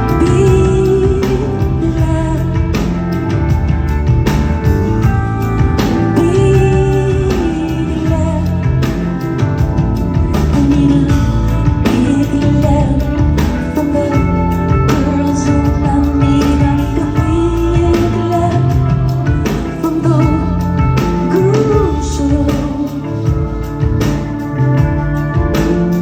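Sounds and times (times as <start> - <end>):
bass: 0.0 - 26.0
keyboard: 0.0 - 26.0.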